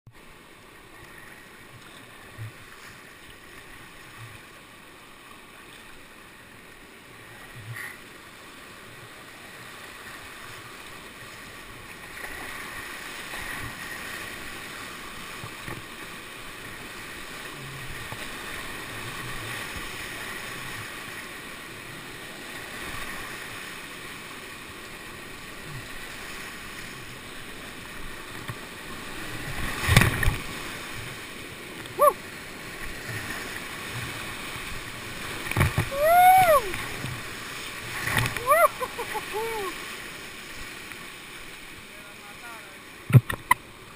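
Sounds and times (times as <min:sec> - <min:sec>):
rushing whitewater: 0:00.2 - 0:43.9.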